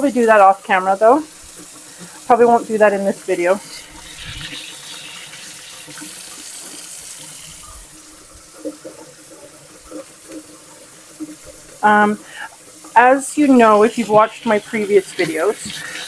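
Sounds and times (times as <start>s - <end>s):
tap water running into colander: 0.0s - 16.0s.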